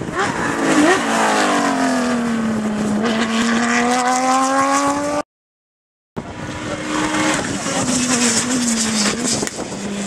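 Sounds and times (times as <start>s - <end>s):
rally car engine at high revs: 0.0s - 5.2s, 6.2s - 10.0s.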